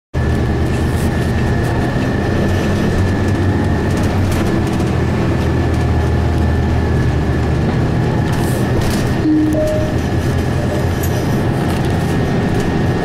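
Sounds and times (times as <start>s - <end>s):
bus diesel engine drone: 0.2s - 13.0s.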